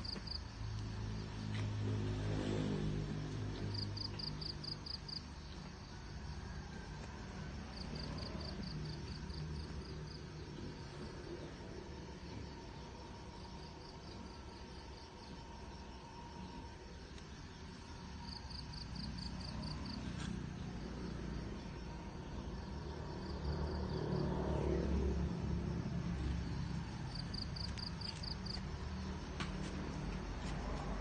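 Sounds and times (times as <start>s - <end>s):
insect chirping: 0.0s - 1.5s, 2.9s - 30.7s
low hum: 0.0s - 31.0s.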